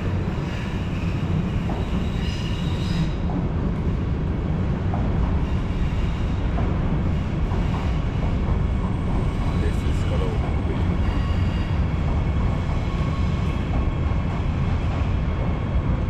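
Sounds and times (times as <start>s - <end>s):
train rumbling over bridge: 0.0s - 16.0s.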